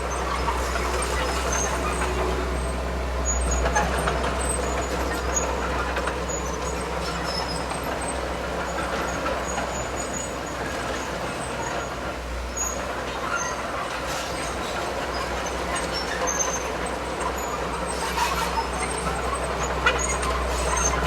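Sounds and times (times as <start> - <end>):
diesel machinery engine drone: 0.0 - 21.0.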